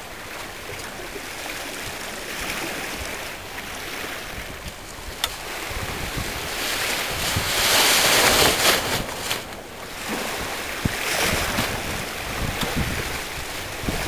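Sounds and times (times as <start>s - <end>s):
water washing around boat: 0.0s - 14.0s
wind gusting across microphone: 1.0s - 14.0s.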